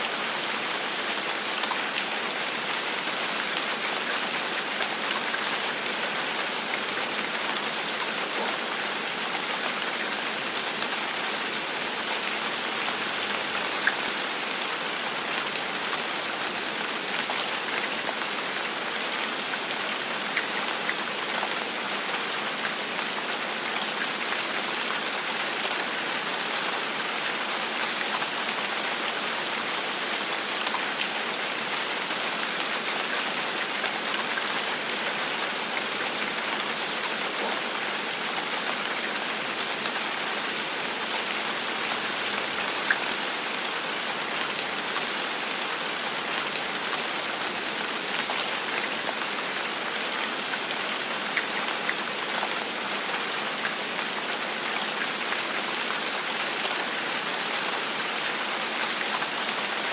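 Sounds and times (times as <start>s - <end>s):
gentle rain falling: 0.0s - 59.9s.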